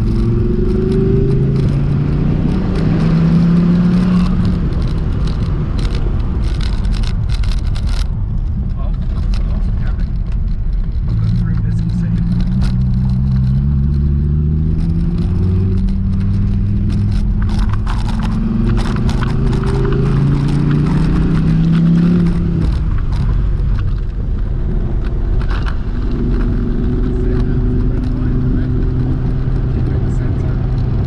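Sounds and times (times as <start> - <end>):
car engine accelerating: 0.0 - 31.0
tyre and road noise: 0.0 - 31.0.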